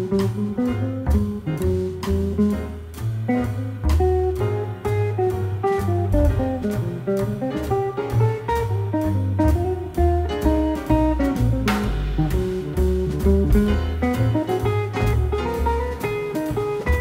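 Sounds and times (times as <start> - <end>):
bass: 0.0 - 17.0
drums keeping time on cymbal: 0.0 - 17.0
jazz electric guitar solo: 0.0 - 17.0.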